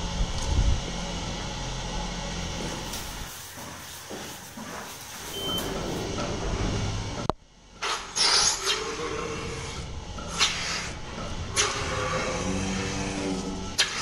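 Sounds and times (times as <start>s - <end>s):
milking machine running: 1.0s - 7.3s, 8.2s - 14.0s.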